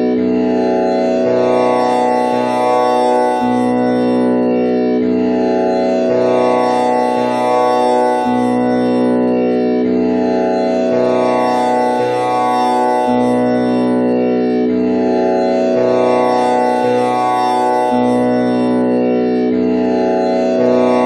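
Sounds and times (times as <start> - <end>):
tanpura drone: 0.0 - 21.0.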